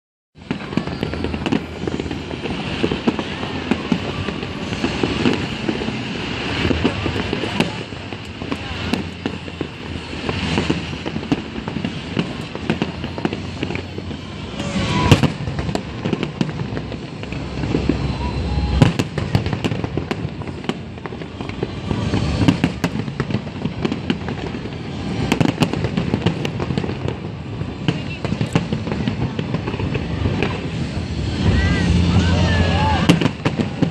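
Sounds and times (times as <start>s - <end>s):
fireworks bangs and crackling: 0.4s - 33.9s.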